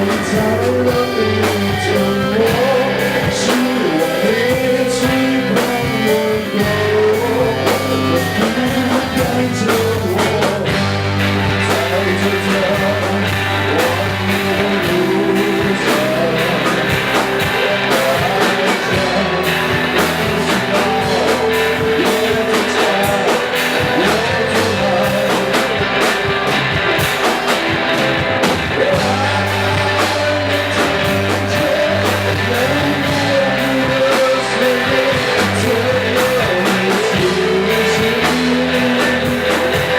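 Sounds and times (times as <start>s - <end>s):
electric guitar: 0.0s - 39.9s
person singing: 0.0s - 39.9s
pulsing bass line: 0.0s - 39.9s.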